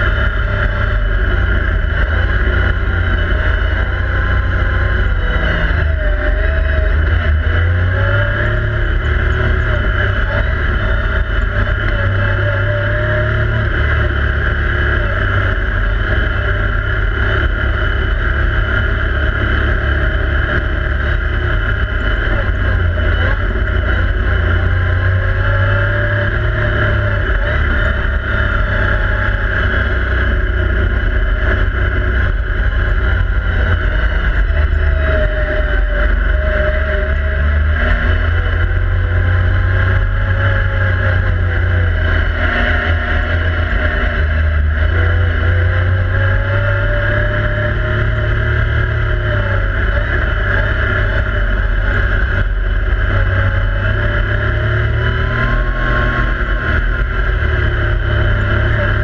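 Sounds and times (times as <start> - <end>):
engine revving under load: 0.0 - 59.0.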